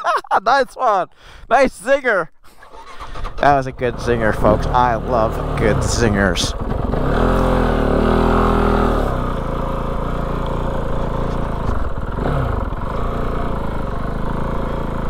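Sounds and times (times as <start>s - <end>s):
motorcycle engine idling: 2.6s - 15.0s.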